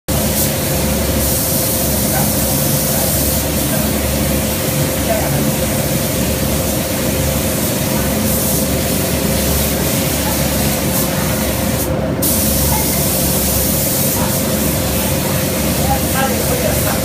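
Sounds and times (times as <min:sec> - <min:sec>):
paint spray gun hissing: 0:00.1 - 0:17.0.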